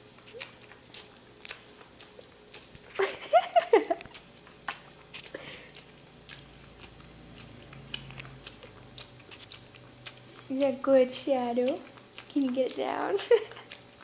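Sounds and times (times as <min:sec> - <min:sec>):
dog licking and smacking: 0:00.0 - 0:14.0.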